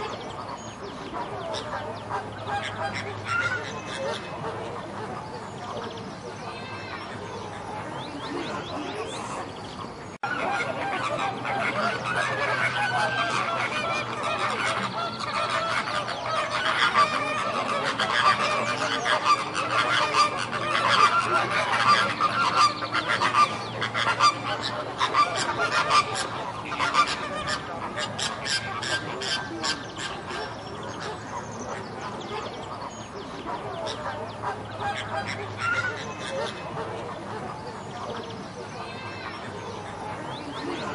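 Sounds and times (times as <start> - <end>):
flamingos honking: 0.0 - 40.9.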